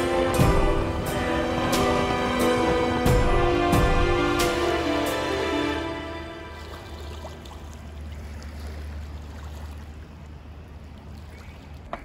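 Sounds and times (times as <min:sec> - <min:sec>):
boat engine droning: 0:00.0 - 0:12.0
water rushing: 0:00.0 - 0:12.0.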